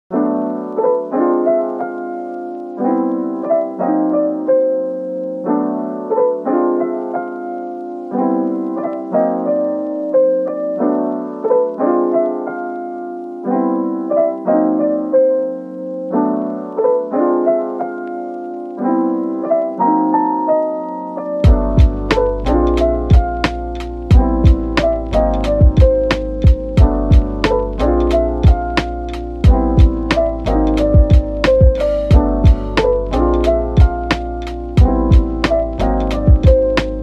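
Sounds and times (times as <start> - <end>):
soft keyboard playing slow chords: 0.1 - 37.0.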